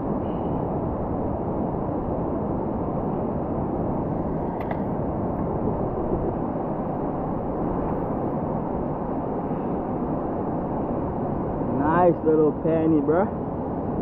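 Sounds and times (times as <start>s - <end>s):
surf on beach: 0.0s - 14.0s
wind buffeting microphone: 0.0s - 14.0s.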